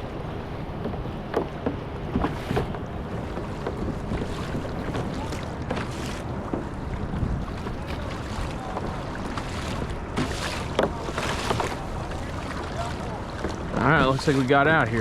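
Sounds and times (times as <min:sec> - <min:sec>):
wind noise on microphone: 0:00.0 - 0:12.1
water splashing against kayak hull: 0:00.0 - 0:15.0.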